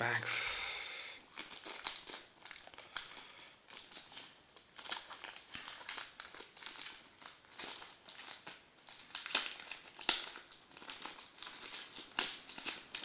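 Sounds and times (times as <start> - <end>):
foil pack tearing and crinkling: 1.2 - 13.0.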